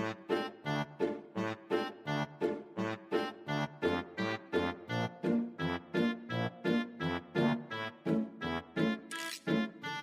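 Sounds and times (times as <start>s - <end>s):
bouncy repeating music notes: 0.0s - 10.0s.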